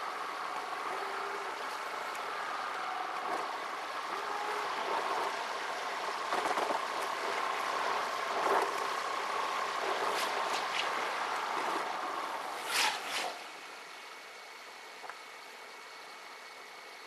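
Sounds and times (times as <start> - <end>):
road and engine noise: 0.0 - 17.0.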